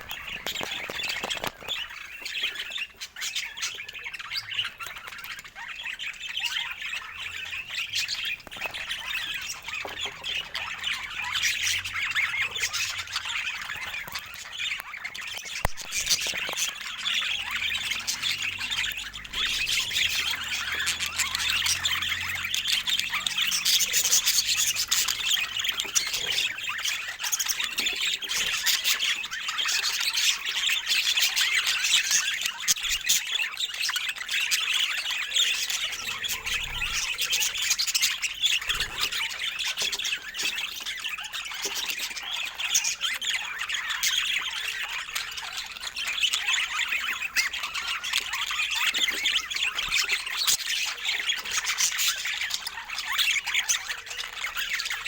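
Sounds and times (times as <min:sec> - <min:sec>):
budgerigars chattering and warbling: 0:00.0 - 0:55.0.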